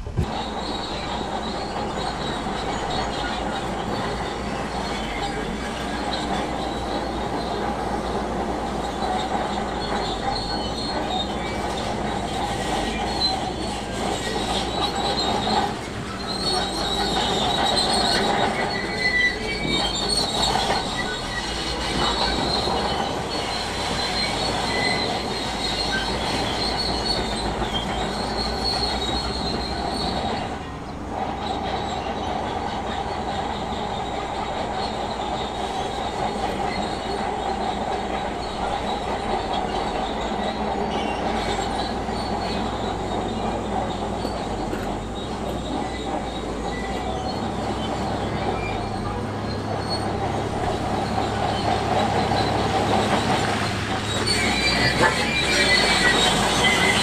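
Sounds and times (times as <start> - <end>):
crawler tracks squealing and clanking: 0.0 - 57.0
diesel engine running: 0.0 - 57.0.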